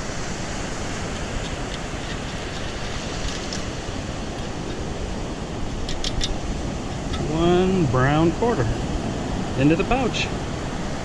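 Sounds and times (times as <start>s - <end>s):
surf rushing: 0.0s - 11.0s
wind buffeting microphone: 0.0s - 11.0s.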